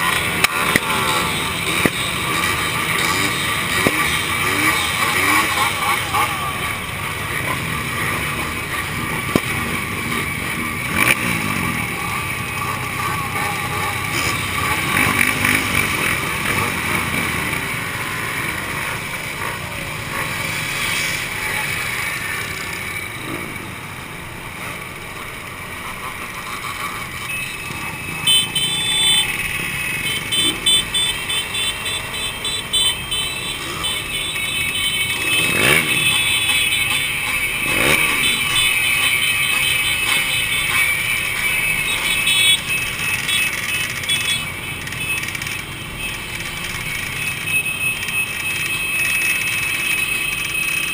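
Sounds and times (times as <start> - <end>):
two-stroke motorcycle engines running: 0.0 - 50.9.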